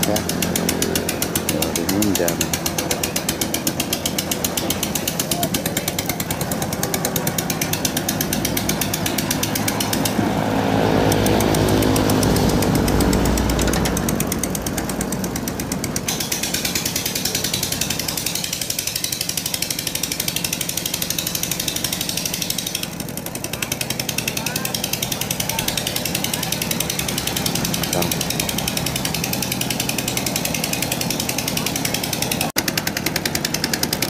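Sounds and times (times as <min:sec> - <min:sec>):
boat motor running: 0:00.0 - 0:34.0.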